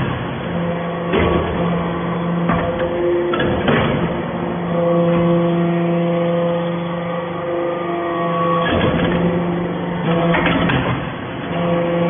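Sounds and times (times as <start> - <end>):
machine hum with held tones: 0.0 - 12.0.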